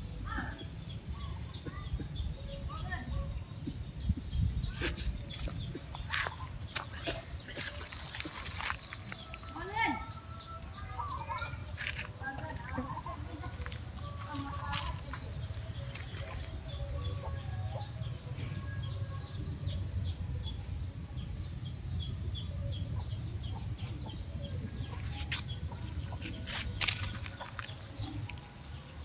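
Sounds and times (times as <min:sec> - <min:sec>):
small birds chirping: 0:00.1 - 0:29.0.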